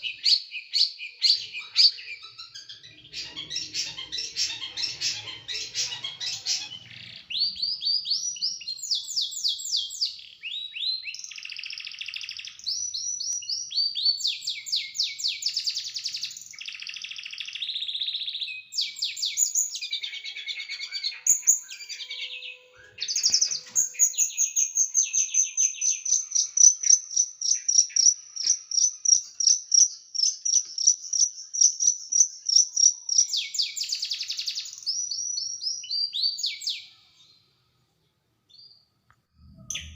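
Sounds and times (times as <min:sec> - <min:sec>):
songbird singing rapid trills: 0:00.0 - 0:37.1.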